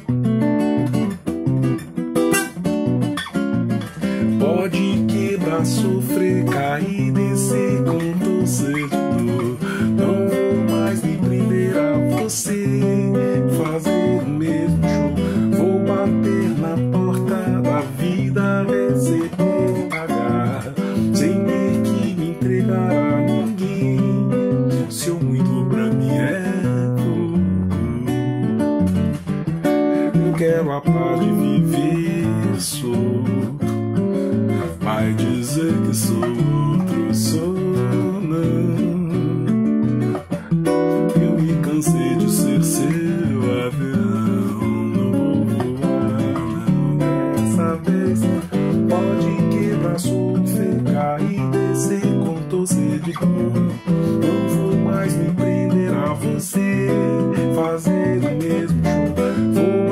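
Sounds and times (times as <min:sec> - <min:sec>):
acoustic guitar chords: 0:00.0 - 0:59.9
man singing: 0:03.8 - 0:28.8, 0:30.0 - 0:59.9.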